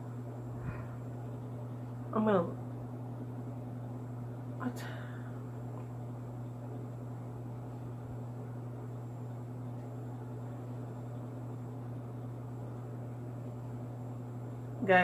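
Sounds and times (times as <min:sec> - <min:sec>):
low room hum with hiss: 0:00.0 - 0:15.0.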